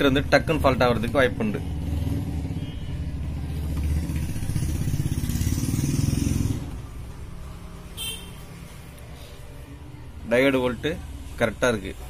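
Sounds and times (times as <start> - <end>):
vehicle engine passing by: 0.0 - 9.8.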